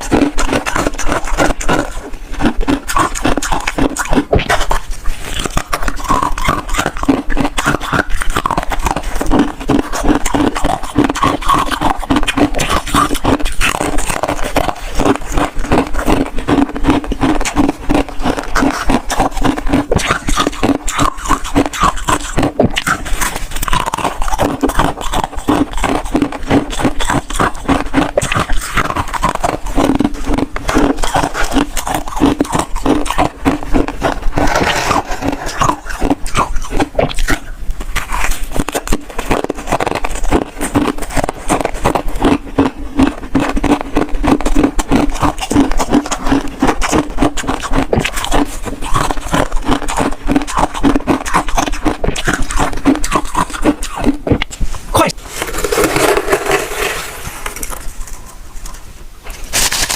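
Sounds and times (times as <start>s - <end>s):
frost crunching and scraping: 0.0s - 59.9s.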